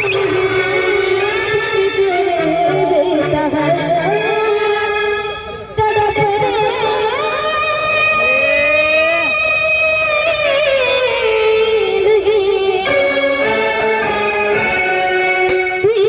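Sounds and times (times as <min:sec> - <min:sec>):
musical accompaniment: 0:00.0 - 0:16.0.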